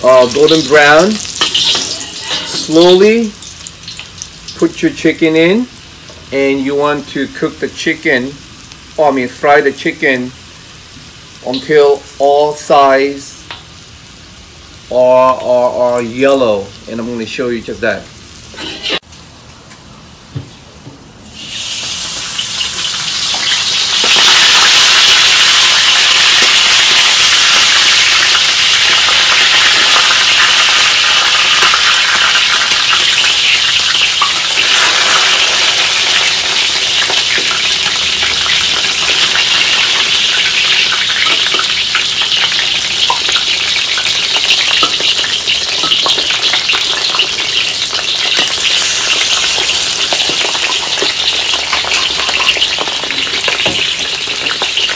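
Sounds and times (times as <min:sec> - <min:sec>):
chicken sizzling in hot oil: 0:00.0 - 0:15.0, 0:21.2 - 0:54.9.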